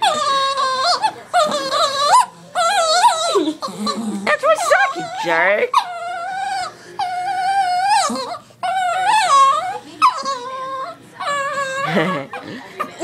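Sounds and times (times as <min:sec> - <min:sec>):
dog whining: 0:00.0 - 0:13.0.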